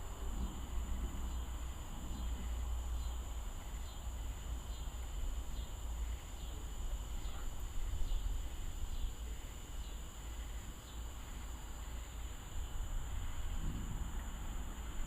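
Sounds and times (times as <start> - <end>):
insect chirps: 0.0 - 15.0
insects droning: 0.0 - 15.0.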